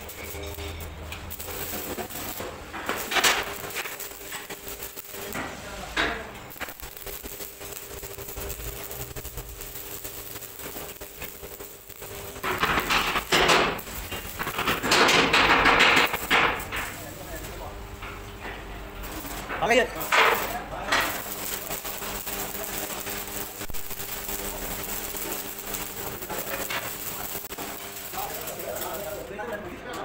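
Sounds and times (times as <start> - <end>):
welding arc crackle: 0.0 - 30.0.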